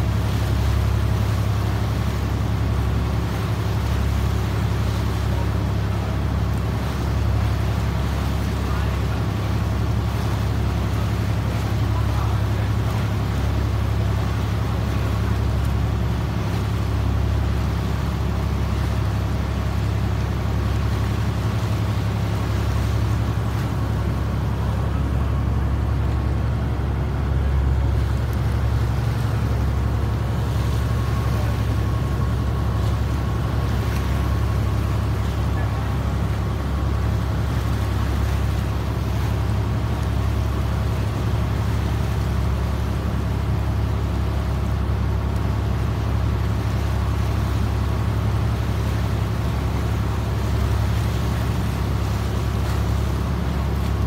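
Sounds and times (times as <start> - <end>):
boat engine droning: 0.0 - 54.0
water splashing along hull: 0.0 - 54.0.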